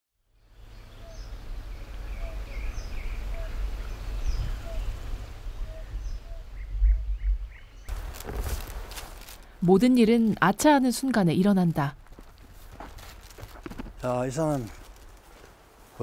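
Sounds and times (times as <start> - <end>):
birds calling: 0.5 - 15.5.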